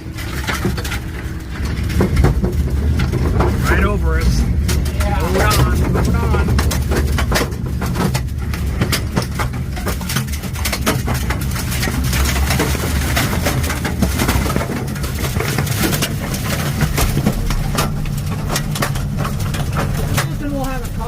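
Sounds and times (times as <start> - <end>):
debris striking vehicle: 0.0 - 21.0
tornado winds roaring: 0.0 - 21.0.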